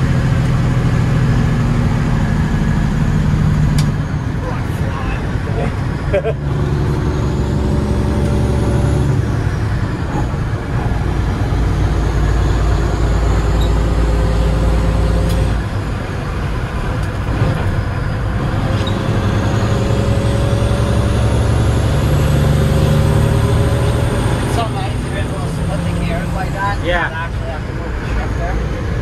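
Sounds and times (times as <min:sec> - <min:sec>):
diesel truck engine: 0:00.0 - 0:29.0
rising engine whine: 0:00.0 - 0:29.0.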